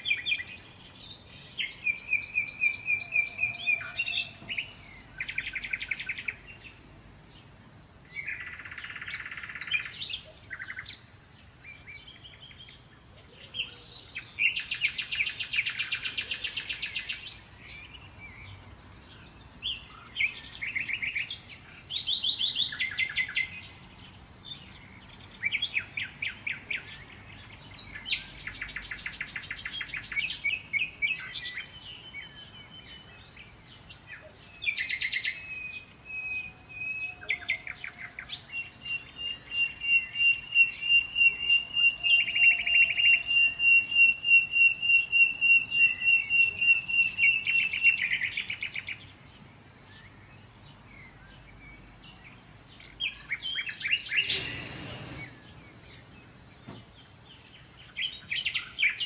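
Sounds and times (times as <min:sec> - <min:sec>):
sparrows chirping and trilling: 0:00.0 - 0:59.0.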